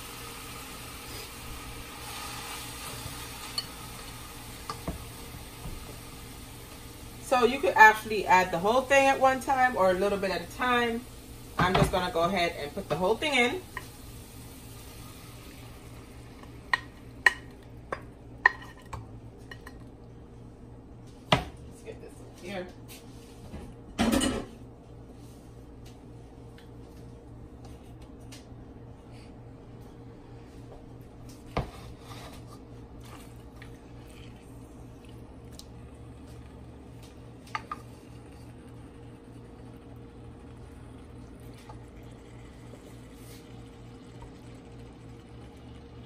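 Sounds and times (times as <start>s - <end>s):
steady low hum: 3.2s - 46.0s.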